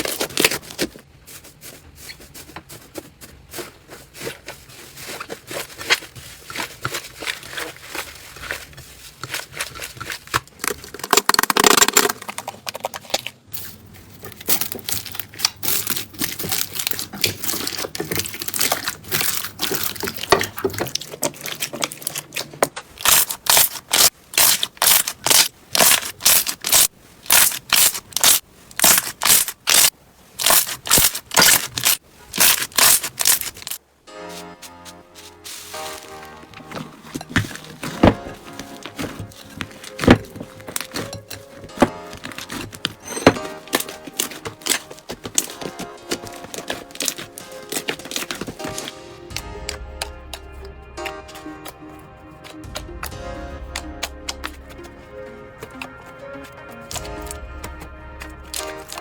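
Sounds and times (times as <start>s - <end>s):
slime squelch: 2.0s - 33.8s, 34.4s - 59.0s
crunchy slime crackles: 5.0s - 33.8s, 35.2s - 59.0s.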